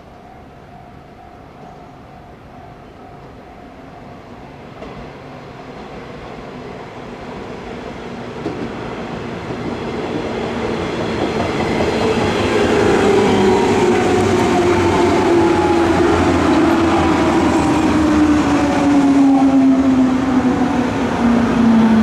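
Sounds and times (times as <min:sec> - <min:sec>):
electric train running past: 0:00.0 - 0:22.0.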